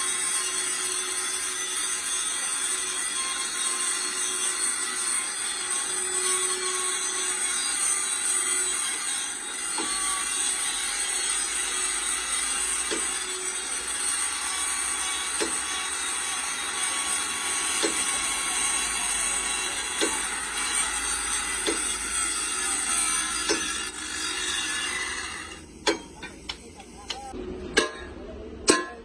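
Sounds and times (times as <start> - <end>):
harsh metalworking noise: 0.0 - 29.0.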